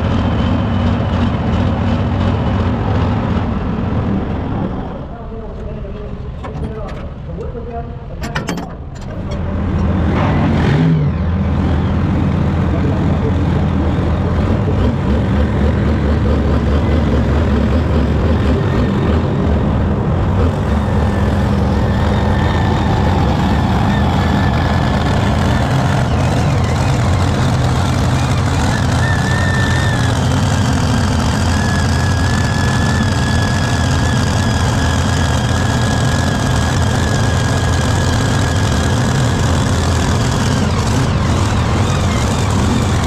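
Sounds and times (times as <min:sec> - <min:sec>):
tractor diesel engine droning: 0:00.0 - 0:43.0.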